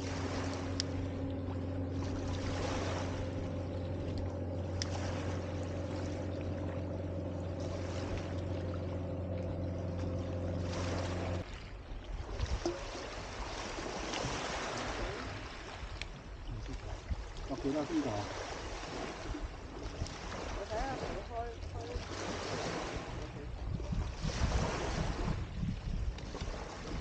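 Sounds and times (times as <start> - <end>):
low engine drone: 0.0 - 15.8, 16.5 - 25.5
waves washing on a beach: 0.0 - 27.0.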